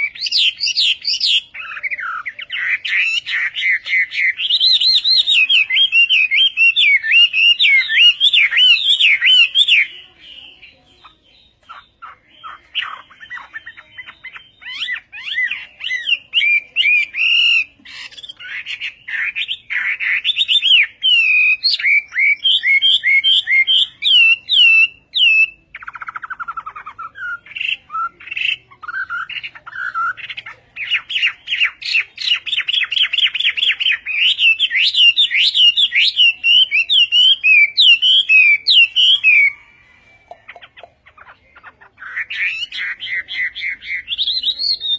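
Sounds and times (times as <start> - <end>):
bird singing whistled phrases and trills: 0.0 - 44.9.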